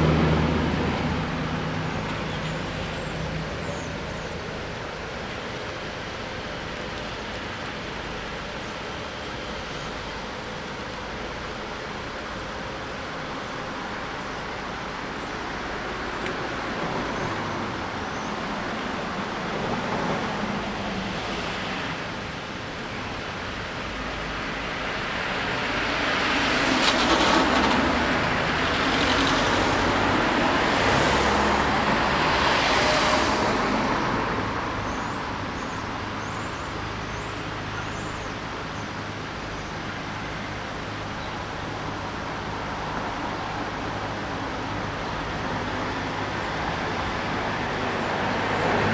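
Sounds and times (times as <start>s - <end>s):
cars driving close past: 0.0s - 7.8s, 11.1s - 48.9s
traffic rumble at a junction: 0.0s - 48.9s.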